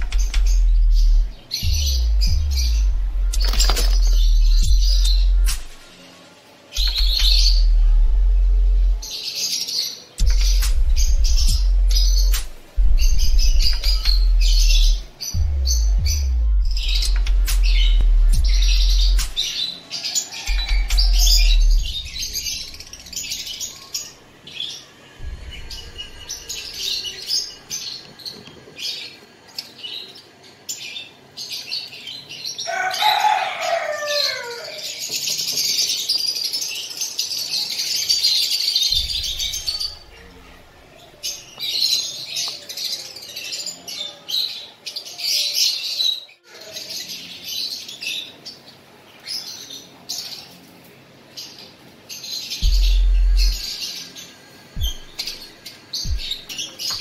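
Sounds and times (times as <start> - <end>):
lovebirds chattering with high chirps: 0.0 - 57.0.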